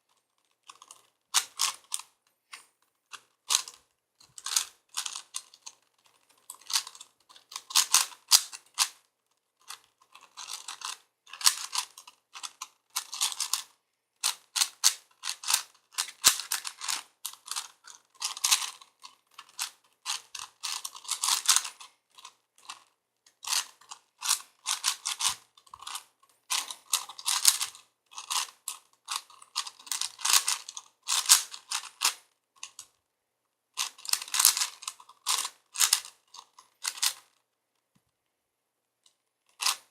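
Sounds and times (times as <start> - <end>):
puzzle cube plastic layers clacking: 0.1 - 33.0, 33.8 - 37.4, 39.0 - 39.9.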